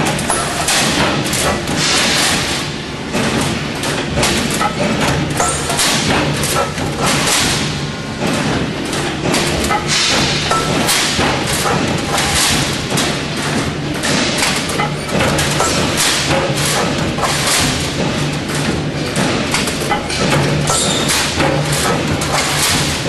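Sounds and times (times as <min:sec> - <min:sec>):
machine motor hum: 0:00.0 - 0:23.0
press heavy thumps: 0:00.0 - 0:23.0.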